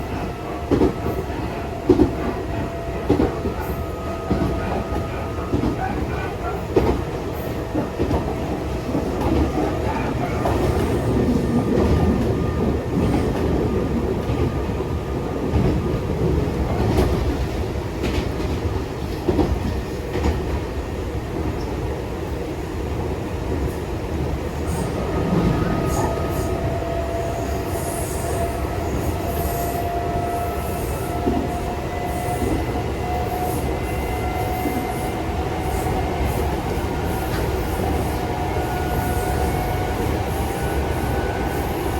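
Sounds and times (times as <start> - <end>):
electric train rumbling: 0.0 - 41.9.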